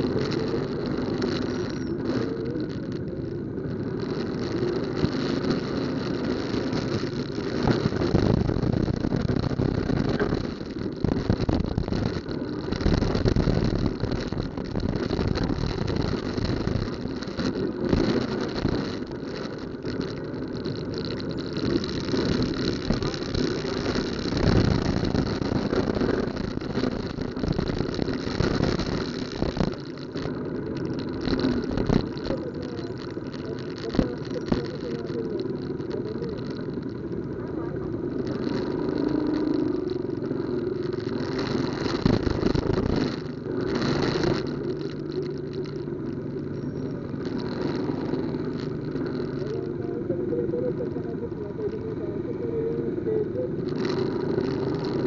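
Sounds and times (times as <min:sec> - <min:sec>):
motorcycle engines idling: 0:00.0 - 0:55.0
steady engine hum: 0:00.0 - 0:55.0.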